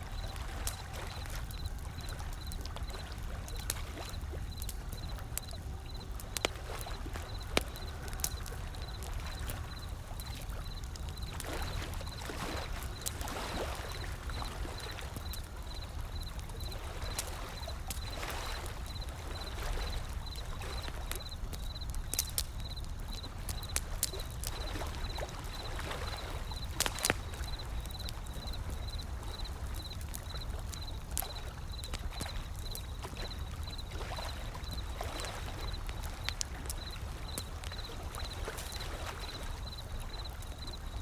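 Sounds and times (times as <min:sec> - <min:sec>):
wood fire crackling and popping: 0:00.0 - 0:41.0
ocean waves: 0:00.1 - 0:41.0.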